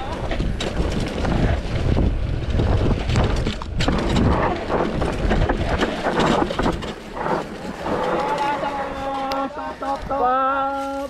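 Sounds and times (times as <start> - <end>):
wind buffeting microphone: 0.0 - 10.4
bike clattering over bumps: 0.0 - 11.0
tyres crunching over ground: 0.0 - 11.0.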